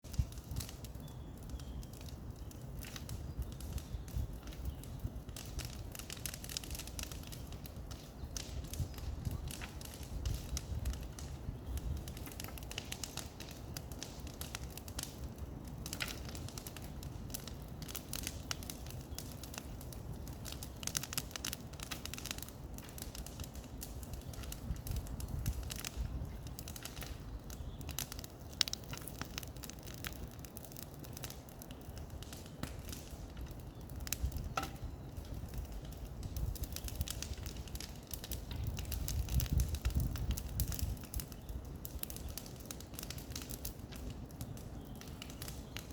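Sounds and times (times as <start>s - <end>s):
dry brush crackling and snapping: 0.0s - 45.9s.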